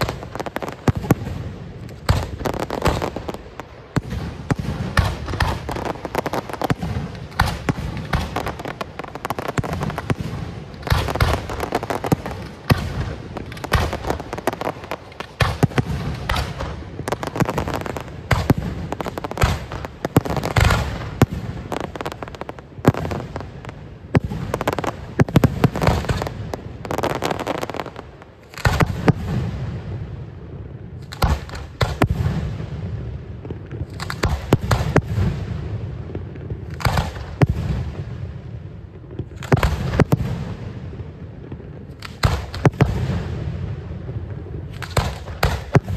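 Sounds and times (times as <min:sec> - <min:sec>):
fireworks bangs and crackling: 0:00.0 - 0:45.9.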